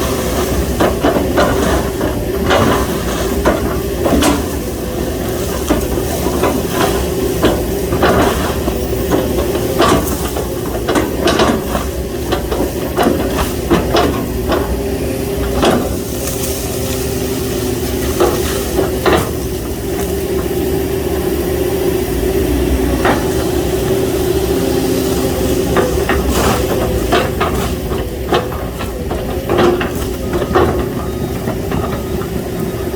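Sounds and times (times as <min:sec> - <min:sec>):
excavator diesel engine running: 0:00.0 - 0:32.9
hydraulic whine: 0:00.0 - 0:32.9.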